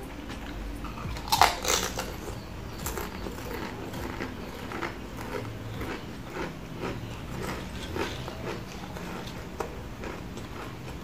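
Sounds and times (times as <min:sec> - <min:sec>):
crisps crunching: 0:00.4 - 0:11.0.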